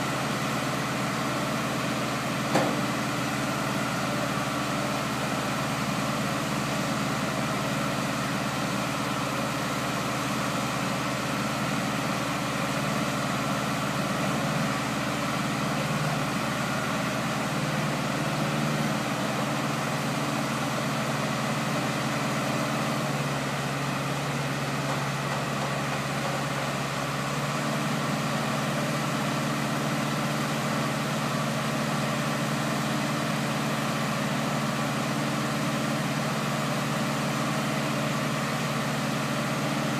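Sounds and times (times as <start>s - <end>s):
boat lift engine running: 0.0s - 39.9s.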